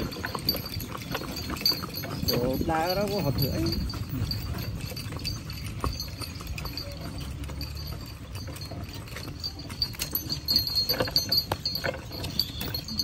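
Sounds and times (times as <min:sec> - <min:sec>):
cart rumbling: 0:00.0 - 0:13.0
horse hooves clip-clopping on dirt: 0:00.0 - 0:13.0.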